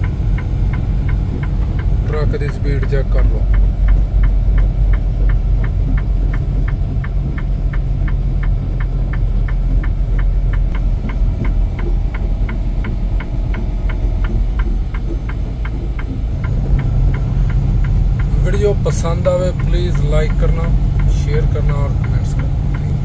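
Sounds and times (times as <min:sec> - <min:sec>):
rapid ticking: 0:00.0 - 0:23.0
truck engine and road rumble: 0:00.0 - 0:23.0.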